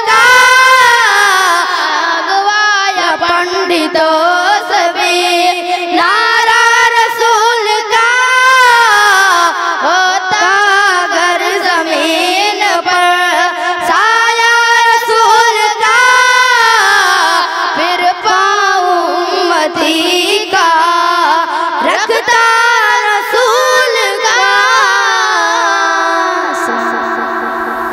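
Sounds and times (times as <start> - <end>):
boys singing devotional song: 0.0 - 27.9.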